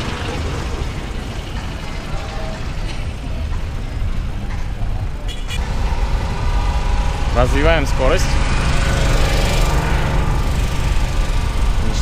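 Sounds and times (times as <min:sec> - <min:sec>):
bicycle tyre and road noise: 0:00.0 - 0:12.0.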